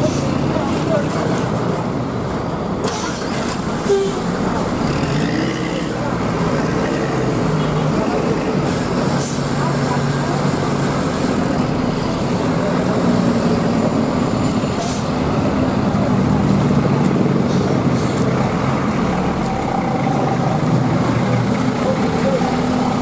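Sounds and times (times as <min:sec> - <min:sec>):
diesel bus engine running: 0:00.0 - 0:23.0.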